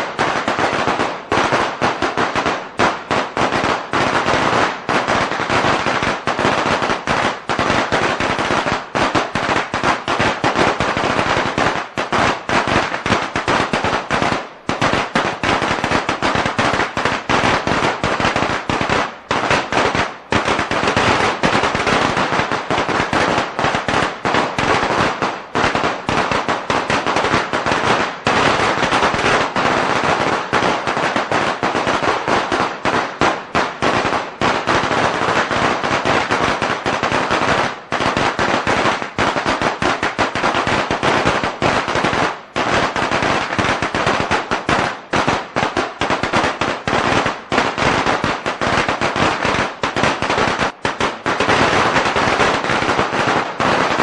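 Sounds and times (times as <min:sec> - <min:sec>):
firecrackers crackling: 0:00.0 - 0:54.0.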